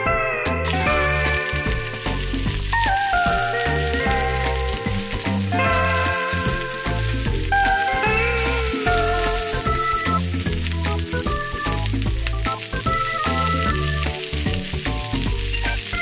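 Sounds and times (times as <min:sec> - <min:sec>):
background music with bass line: 0:00.0 - 0:16.0
onions sizzling in a frying pan: 0:00.7 - 0:16.0.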